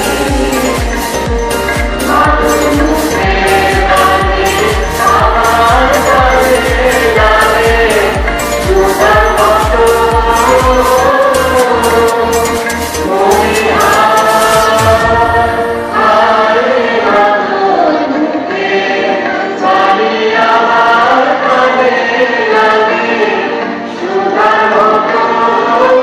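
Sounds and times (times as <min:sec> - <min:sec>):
group of women singing in unison: 0:00.0 - 0:26.0.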